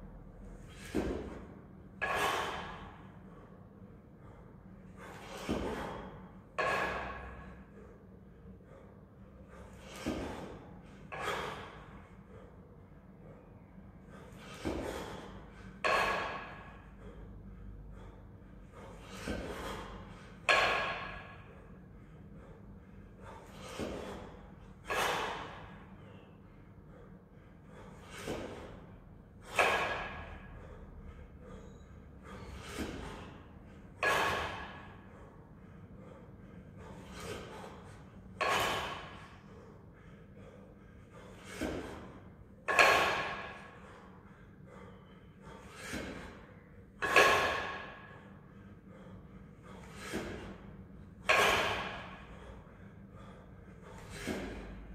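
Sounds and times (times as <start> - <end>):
man breathing hard: 0.0 - 54.9.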